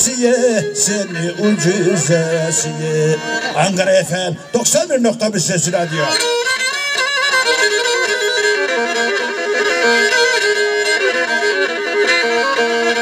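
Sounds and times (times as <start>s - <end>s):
violin folk melody: 0.0s - 13.0s.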